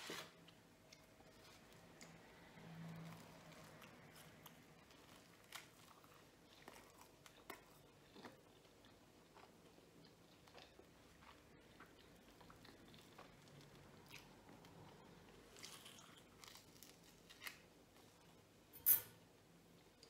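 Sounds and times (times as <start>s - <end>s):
chewing pizza crust: 0.4s - 18.5s.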